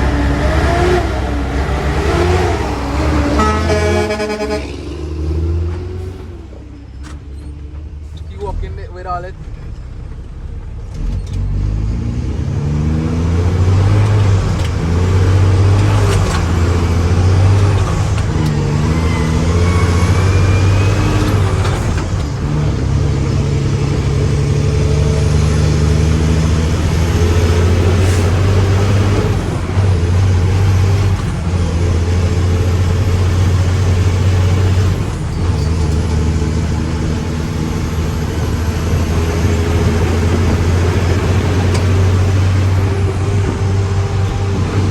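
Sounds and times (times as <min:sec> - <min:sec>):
truck diesel engine revving: 0:00.0 - 0:07.0, 0:10.3 - 0:44.9.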